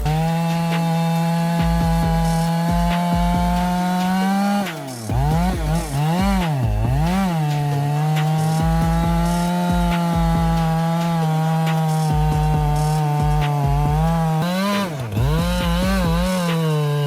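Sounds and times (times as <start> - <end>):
chainsaw running at high revs: 0.0 - 17.0.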